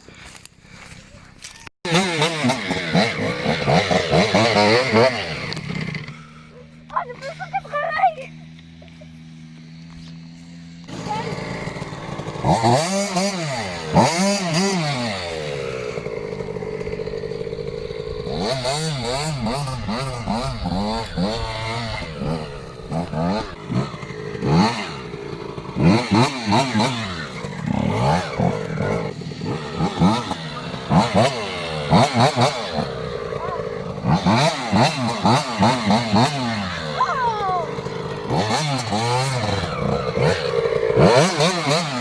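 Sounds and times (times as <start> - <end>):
motocross engine revving: 1.8 - 42.0.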